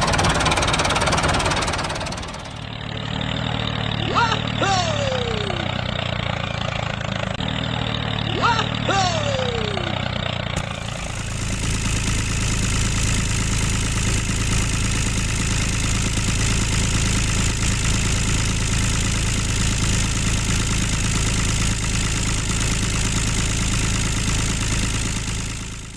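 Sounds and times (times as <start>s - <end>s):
motor running steadily: 0.0s - 25.9s.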